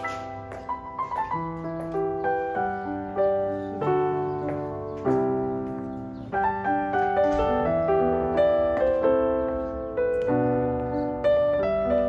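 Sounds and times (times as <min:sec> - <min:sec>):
gentle piano piece: 0:00.0 - 0:12.0.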